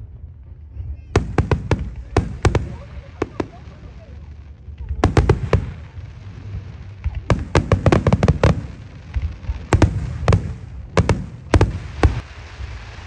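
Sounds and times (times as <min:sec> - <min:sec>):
fireworks bursting with sharp cracks: 0:00.0 - 0:13.0
low rumble: 0:00.0 - 0:13.0.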